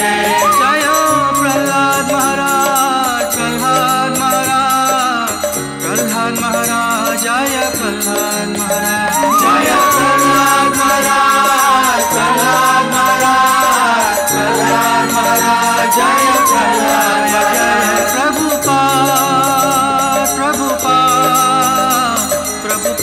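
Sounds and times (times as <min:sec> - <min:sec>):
devotional singing melody: 0:00.0 - 0:23.0
hand cymbals keeping a beat: 0:00.0 - 0:23.0.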